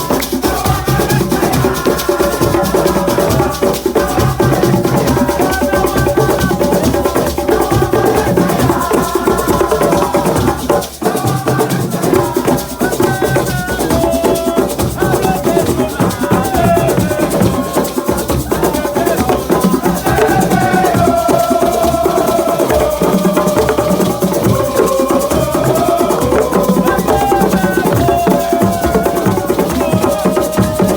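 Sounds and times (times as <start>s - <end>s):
box drum and hand percussion: 0.0s - 30.9s
voices singing: 0.0s - 30.9s.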